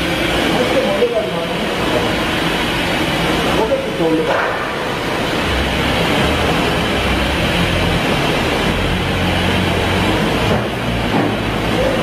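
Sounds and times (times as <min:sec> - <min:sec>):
machining center humming: 0:00.0 - 0:12.0.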